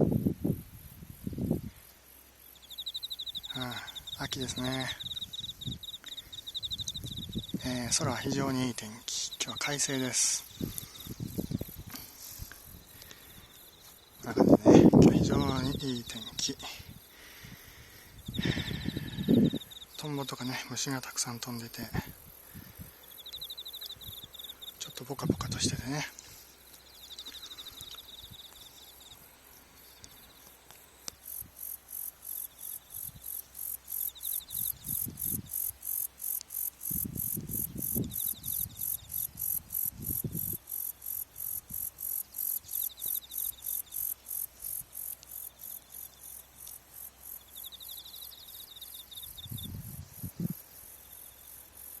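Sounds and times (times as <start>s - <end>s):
insect high chirping: 0.0s - 52.0s
insect lower trill: 0.0s - 52.0s.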